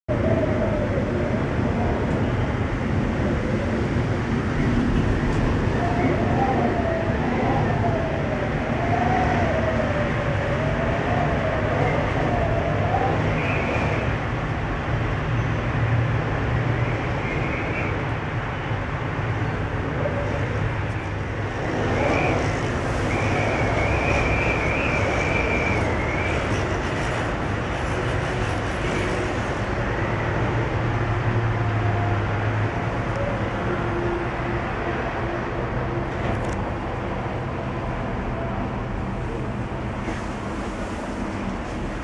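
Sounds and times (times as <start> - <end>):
cable car gondola rumble and hiss: 0.1 - 42.0.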